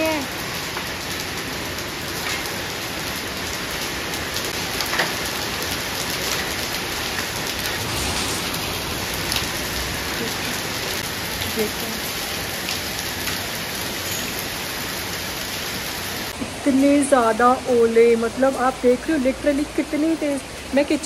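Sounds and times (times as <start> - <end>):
heavy rain hiss: 0.0 - 21.0.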